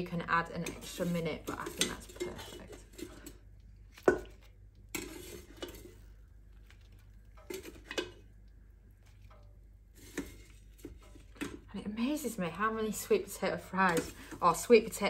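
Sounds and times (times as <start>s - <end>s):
spatula scraping basket: 0.0s - 3.4s, 4.0s - 8.2s, 9.0s - 15.0s.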